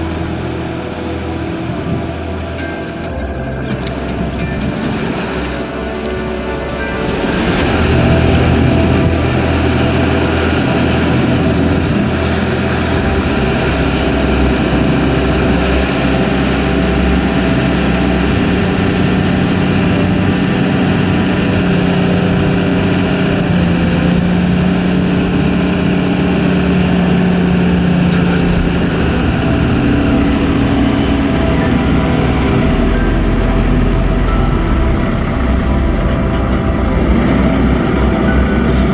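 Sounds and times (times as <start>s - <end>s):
crane diesel engine running: 0.0s - 38.9s.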